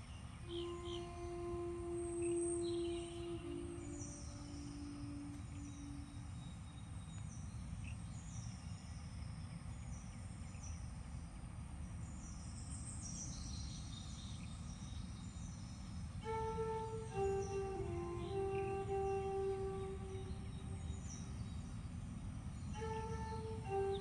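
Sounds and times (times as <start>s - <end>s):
bird chirping: 0.0s - 24.0s
steady low rumble: 0.0s - 24.0s.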